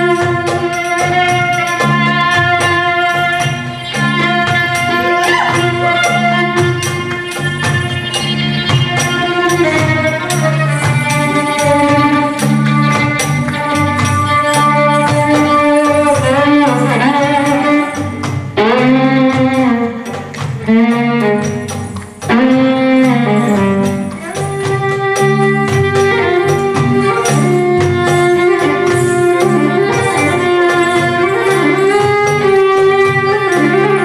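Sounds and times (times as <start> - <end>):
percussion beat: 0.0 - 34.0
violin melody: 0.0 - 34.0.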